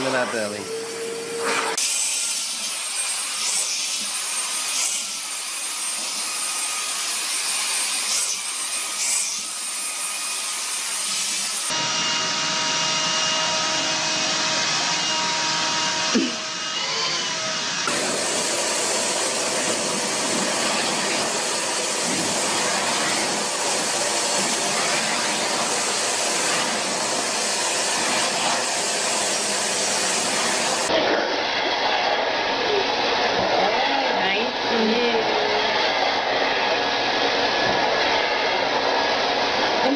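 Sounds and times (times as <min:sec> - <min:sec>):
vacuum cleaner motor: 0:00.0 - 0:39.9.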